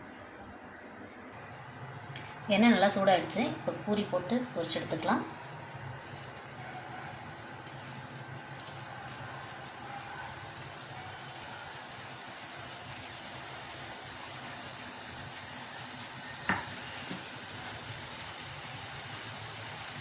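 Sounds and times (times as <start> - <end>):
dough sizzling in hot oil: 1.4 - 20.0.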